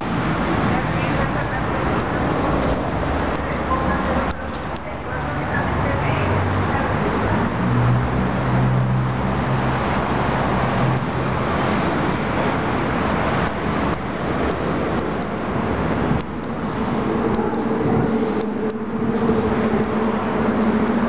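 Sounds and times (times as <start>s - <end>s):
traffic noise: 0.0s - 21.0s
vehicle engine humming: 0.0s - 21.0s.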